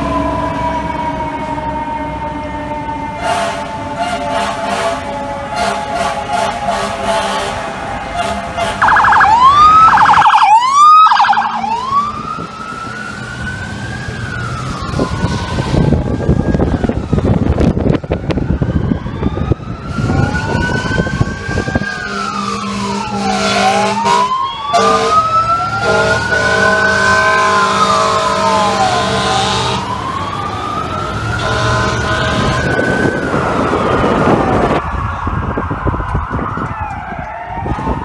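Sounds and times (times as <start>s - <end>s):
emergency sirens wailing: 0.0s - 38.0s
road and wind noise: 0.0s - 38.0s.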